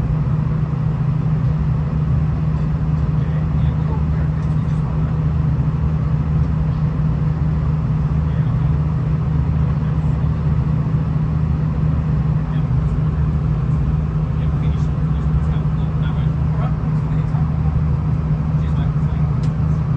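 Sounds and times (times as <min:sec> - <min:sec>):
diesel engine drone: 0:00.0 - 0:19.9.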